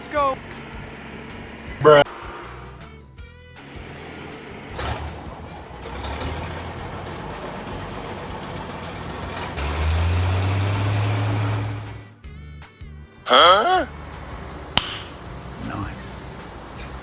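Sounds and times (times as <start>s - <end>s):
truck engine running: 0.0s - 13.1s, 13.9s - 17.0s.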